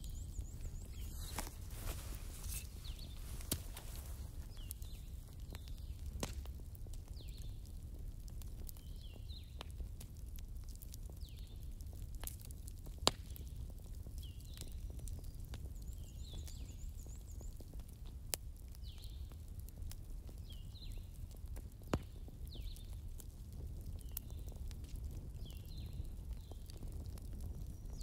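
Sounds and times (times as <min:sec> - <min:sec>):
bonfire crackling and popping: 0:00.0 - 0:28.0.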